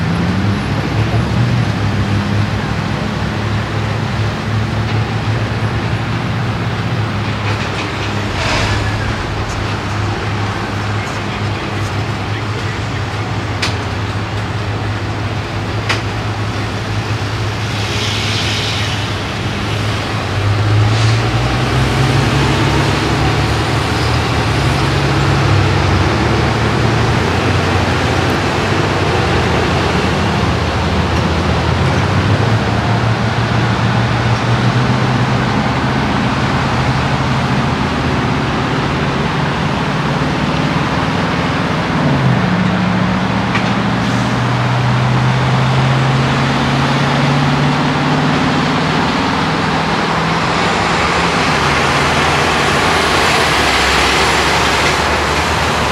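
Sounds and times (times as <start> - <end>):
road noise: 0.0 - 55.9
vehicle engine droning: 0.0 - 55.9.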